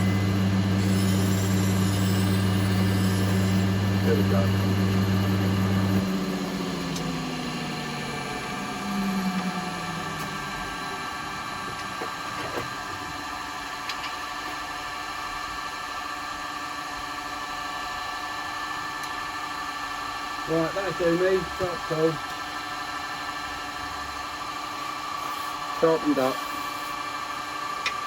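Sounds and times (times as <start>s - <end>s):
bench grinder winding down: 0.0s - 16.0s, 17.4s - 28.0s
steady machine hum: 0.0s - 28.0s.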